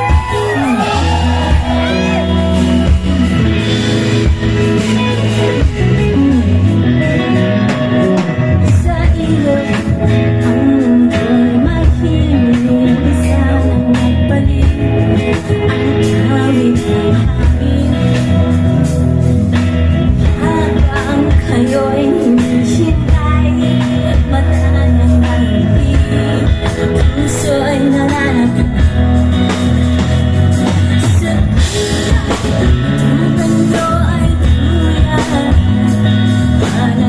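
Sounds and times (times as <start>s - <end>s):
person singing: 0.0s - 19.1s, 20.2s - 37.0s
live band playing: 0.0s - 37.0s.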